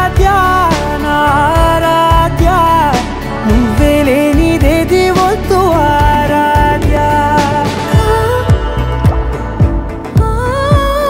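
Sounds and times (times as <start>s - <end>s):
melodic lead line: 0.0s - 11.0s
steady drum beat: 0.0s - 11.0s.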